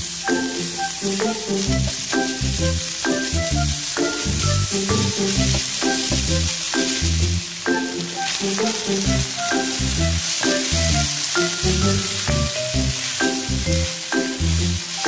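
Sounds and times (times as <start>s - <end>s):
background music with bass line: 0.0s - 15.0s
vegetables sizzling in a wok: 0.0s - 15.0s
spatula stirring in a wok: 0.4s - 15.0s.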